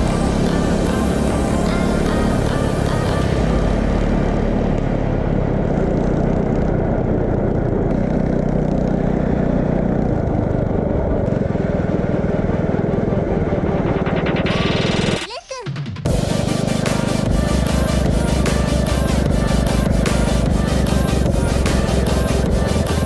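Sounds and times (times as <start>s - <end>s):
small engine running: 0.0s - 15.2s, 16.0s - 23.0s.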